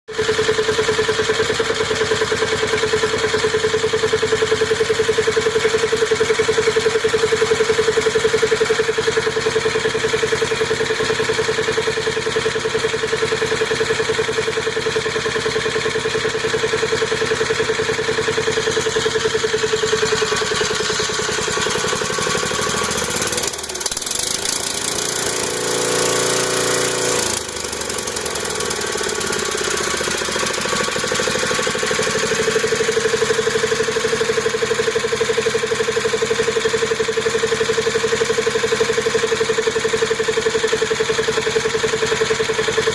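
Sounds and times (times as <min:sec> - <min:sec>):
small engine putter: 0:00.1 - 0:42.9.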